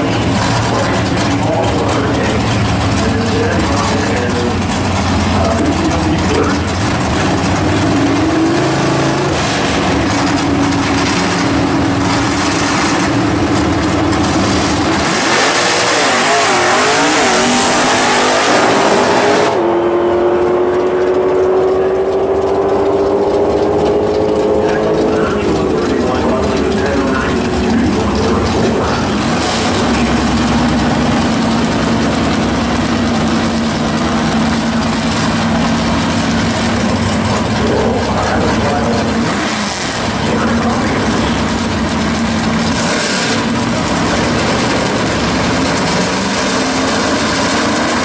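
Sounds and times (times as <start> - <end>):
car engines revving: 0.0 - 48.0
engine roaring at full throttle: 0.0 - 48.0
engine with rising pitch: 0.0 - 48.0.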